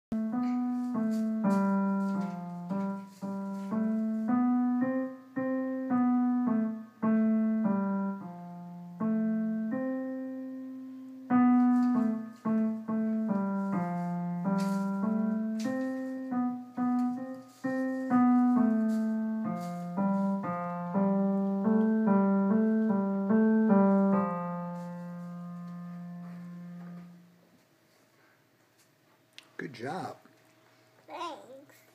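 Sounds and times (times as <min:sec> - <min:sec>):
piano melody: 0:00.1 - 0:27.4.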